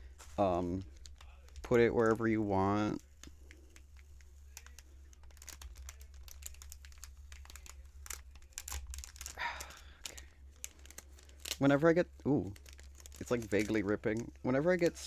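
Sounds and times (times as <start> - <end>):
paper sticker peeling off: 0.3 - 15.0.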